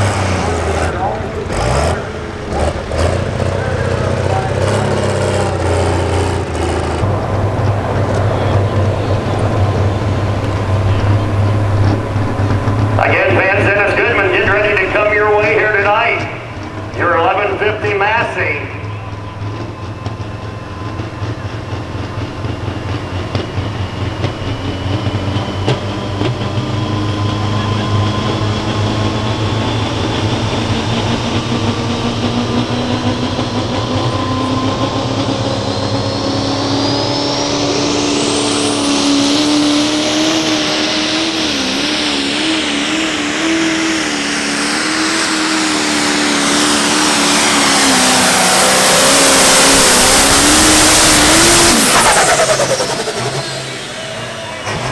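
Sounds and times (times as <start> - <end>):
diesel tractor engine running hard: 0.0 - 54.9
high turbocharger whine: 0.0 - 54.9.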